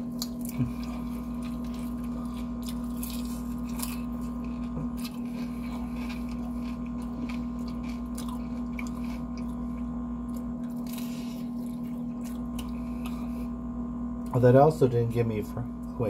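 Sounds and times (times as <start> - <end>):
crunchy chewing of fried chicken: 0.0 - 14.2
steady low hum: 0.0 - 16.0.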